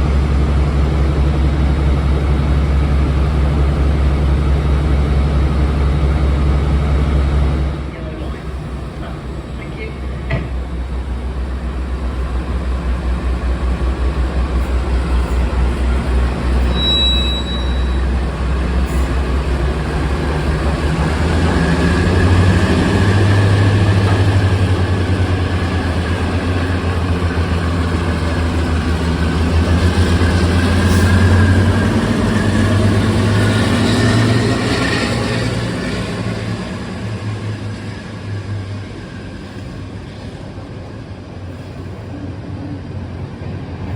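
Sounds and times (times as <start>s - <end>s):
diesel locomotive engines running: 0.0s - 43.9s.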